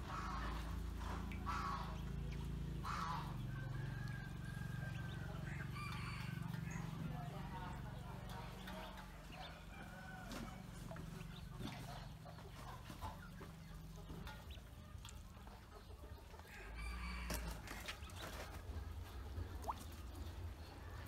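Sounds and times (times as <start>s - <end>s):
ducklings paddling in water: 0.0s - 21.0s
ducklings peeping: 0.0s - 21.0s.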